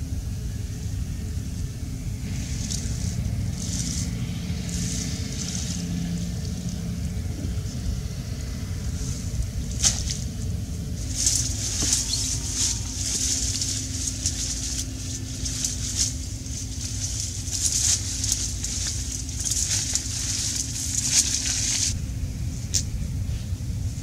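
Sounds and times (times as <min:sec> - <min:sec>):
steady low rumble: 0:00.0 - 0:24.0
rustling and crackling: 0:02.2 - 0:22.0.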